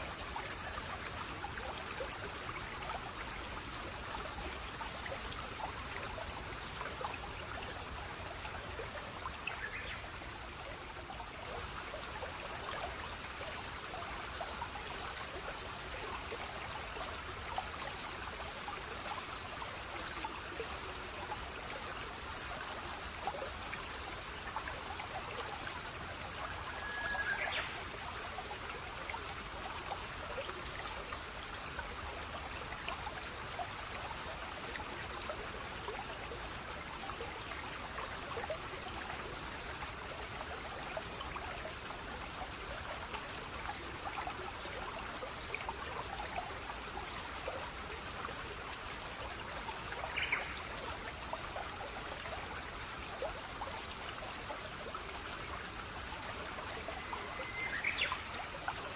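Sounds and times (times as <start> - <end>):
stream of water trickling: 0.0 - 58.9.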